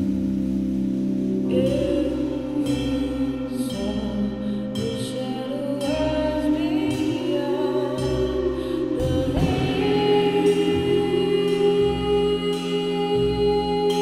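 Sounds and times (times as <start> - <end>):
low bass pulses: 0.0 - 14.0
person singing: 1.2 - 14.0.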